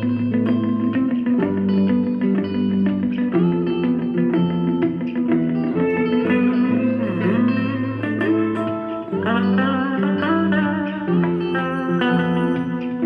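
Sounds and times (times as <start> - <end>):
guitar music with pitch bends: 0.0 - 13.0.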